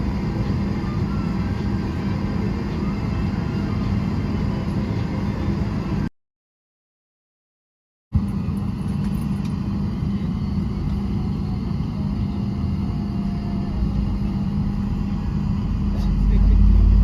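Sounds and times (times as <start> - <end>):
cabin air system hum: 0.0 - 6.0, 8.2 - 17.0
airplane cabin rumble: 0.0 - 6.1, 8.2 - 17.0
jet engines droning hum: 0.0 - 6.1, 8.2 - 17.0.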